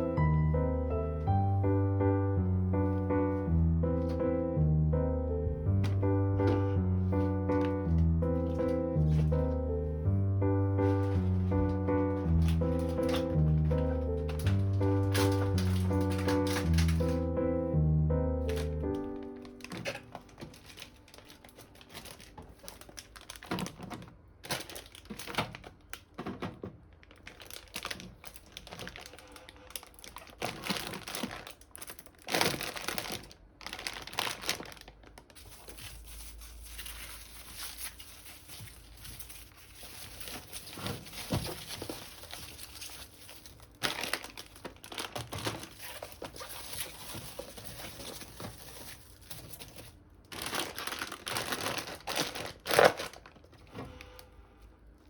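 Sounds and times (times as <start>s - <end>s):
packaging crinkling and rustling: 0.0s - 0.5s, 2.5s - 4.5s, 5.6s - 17.7s, 18.3s - 53.8s.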